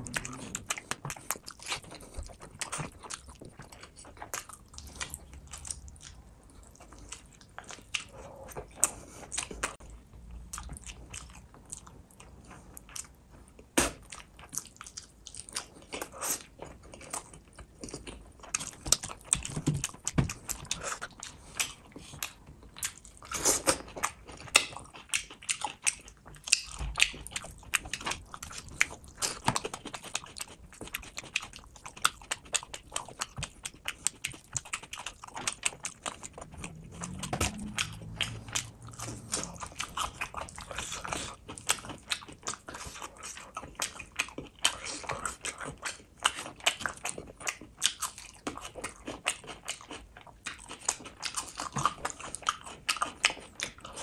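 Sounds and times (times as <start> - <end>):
person chewing and lip-smacking: 0.0 - 54.0.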